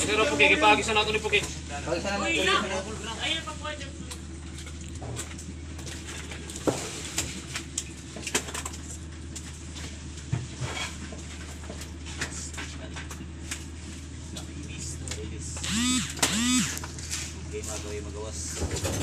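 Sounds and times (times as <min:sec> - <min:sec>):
boat engine humming: 0:00.0 - 0:18.6.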